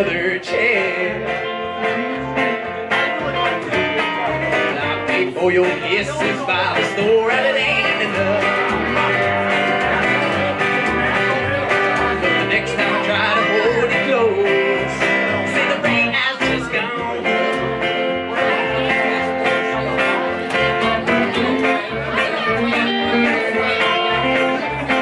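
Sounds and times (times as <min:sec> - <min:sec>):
electric guitar lead: 0:00.0 - 0:25.0
strummed acoustic guitar: 0:00.0 - 0:25.0
upright bass line: 0:00.0 - 0:25.0.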